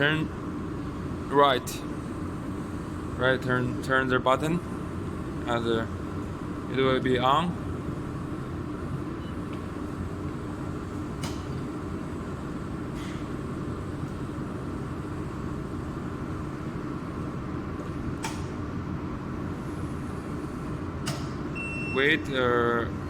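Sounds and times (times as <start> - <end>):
steady cooling system tones: 0.0 - 23.0
welding machine hum: 0.0 - 23.0.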